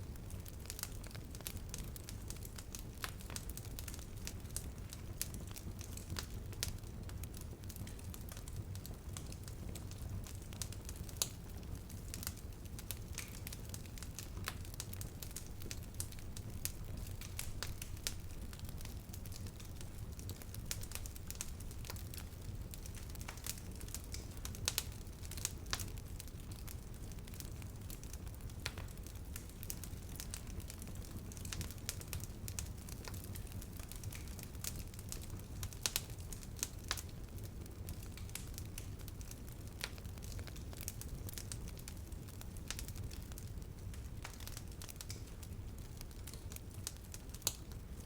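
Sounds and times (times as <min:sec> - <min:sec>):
campfire crackling: 0:00.0 - 0:48.0.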